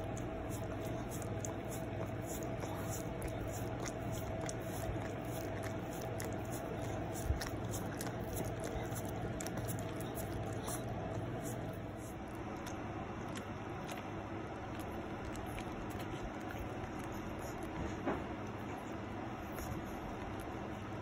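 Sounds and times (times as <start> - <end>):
dog licking wet smacking: 0.0 - 21.0.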